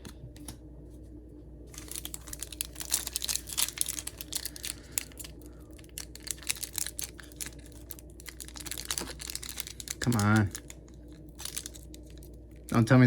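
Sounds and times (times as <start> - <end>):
foil wrapper crinkling and tearing: 1.7 - 13.0.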